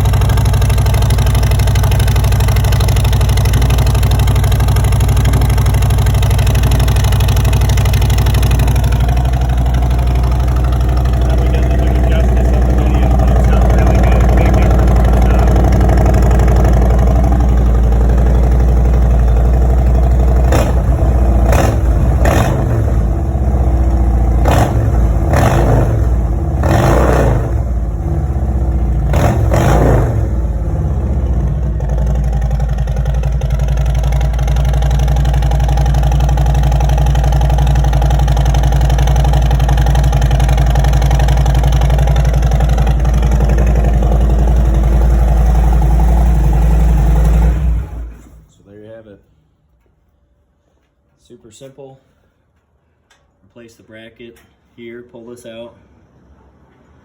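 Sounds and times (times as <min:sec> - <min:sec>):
motorcycle engine idling and revving: 0:00.0 - 0:48.5.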